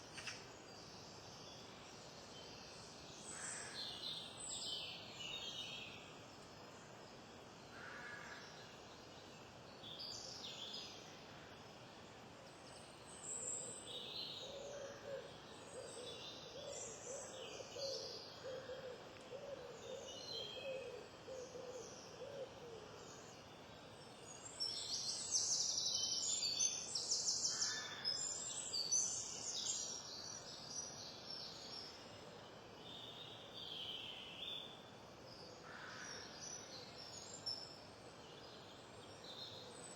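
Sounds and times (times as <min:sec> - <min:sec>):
wild birds singing and chirping: 0:00.0 - 0:39.9.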